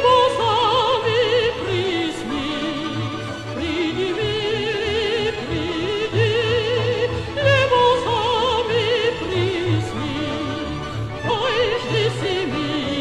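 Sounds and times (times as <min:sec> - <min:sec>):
woman singing classical style: 0:00.0 - 0:13.0.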